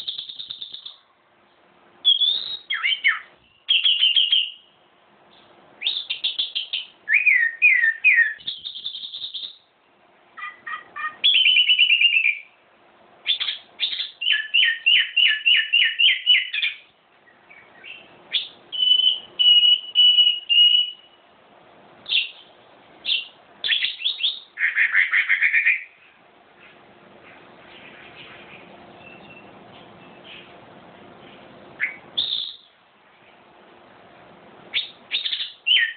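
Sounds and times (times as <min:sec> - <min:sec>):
songbird singing: 0:00.0 - 0:12.6, 0:13.2 - 0:21.4, 0:22.0 - 0:33.6, 0:34.7 - 0:35.9.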